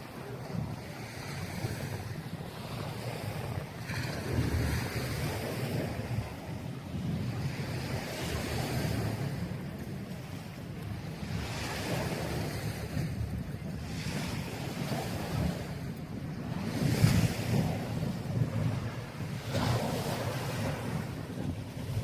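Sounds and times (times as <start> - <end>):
surf: 0.0 - 22.0
wind buffeting microphone: 0.0 - 22.0.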